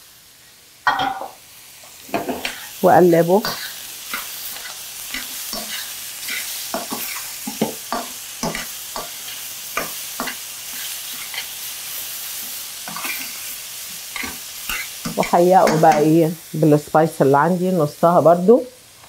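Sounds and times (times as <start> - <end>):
shrimp sizzling in a frying pan: 0.0 - 19.0.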